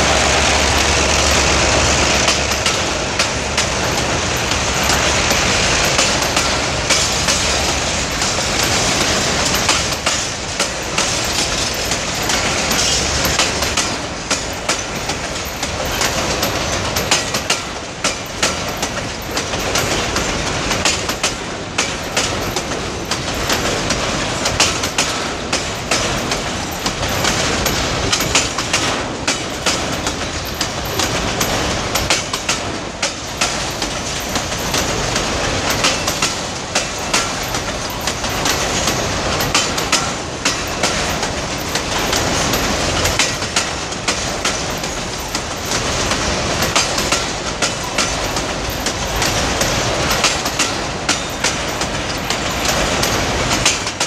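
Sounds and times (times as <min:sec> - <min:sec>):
diesel locomotive hum: 0:00.0 - 0:54.0
freight train rumble: 0:00.0 - 0:54.0
train wheels clacking over rail joints: 0:00.0 - 0:54.0.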